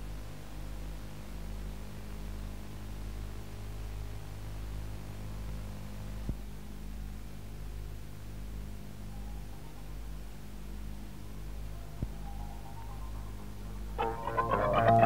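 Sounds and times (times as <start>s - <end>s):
low electrical hum: 0.0s - 15.0s
tape hiss: 0.0s - 15.0s.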